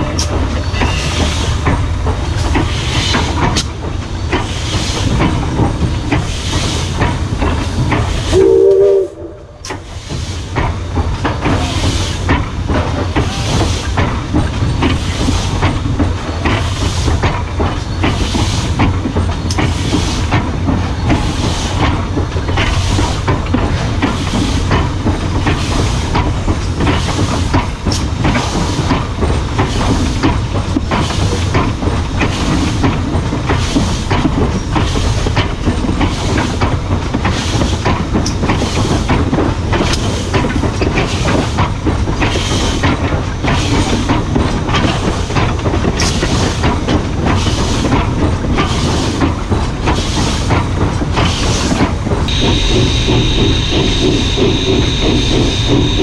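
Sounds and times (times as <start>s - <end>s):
steam locomotive chuffing: 0.0s - 56.0s
train rumbling on rails: 0.0s - 56.0s.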